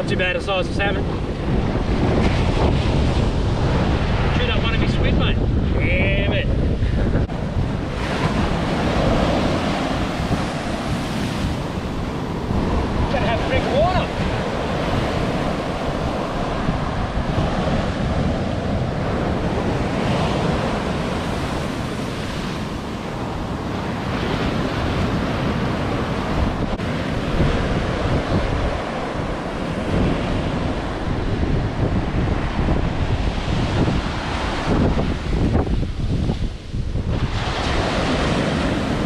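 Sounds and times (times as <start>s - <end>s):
surf breaking on beach: 0.0s - 39.0s
wind buffeting microphone: 0.0s - 39.0s.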